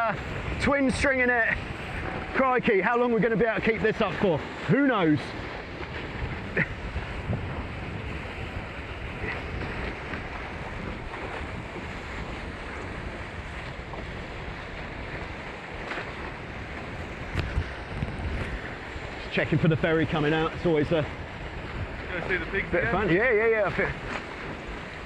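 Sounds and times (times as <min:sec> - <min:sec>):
water rushing past hulls: 0:00.0 - 0:25.0
wind buffeting microphone: 0:00.0 - 0:25.0.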